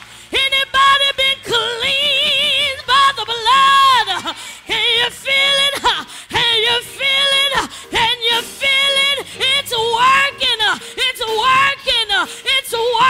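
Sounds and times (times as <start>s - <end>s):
woman singing gospel: 0.3s - 13.0s.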